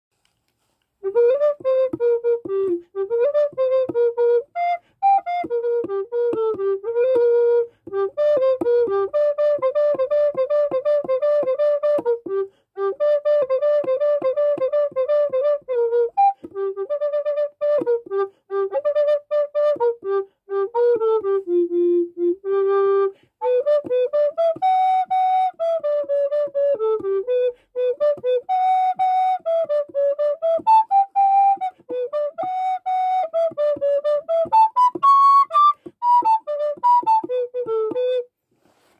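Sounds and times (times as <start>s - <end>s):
alto recorder fast melody: 1.0s - 38.3s.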